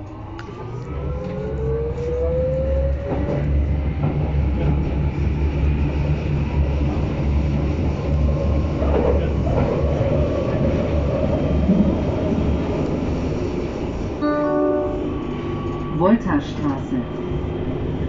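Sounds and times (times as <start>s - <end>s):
train running rumble: 0.0s - 18.0s
train whine rising: 0.0s - 18.0s.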